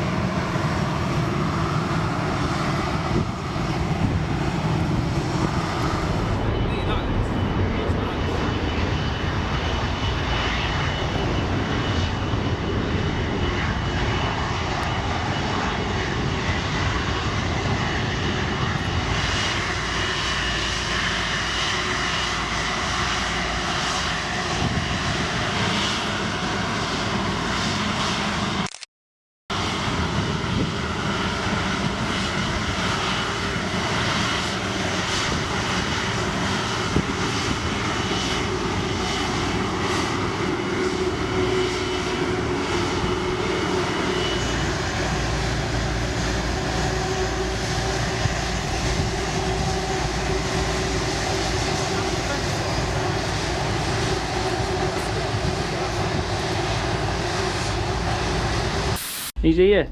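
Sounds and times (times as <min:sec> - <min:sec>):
aircraft engine rushing: 0:00.0 - 0:28.7, 0:29.5 - 0:59.3.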